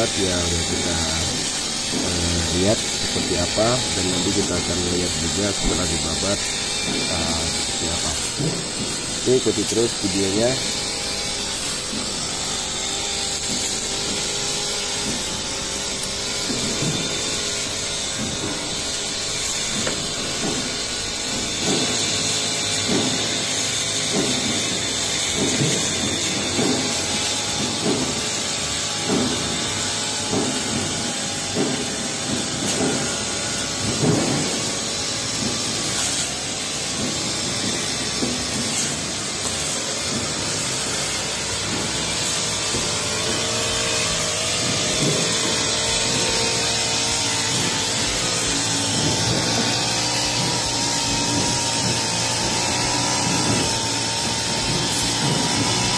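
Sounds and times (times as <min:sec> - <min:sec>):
brush cutter running: 0:00.0 - 0:55.9.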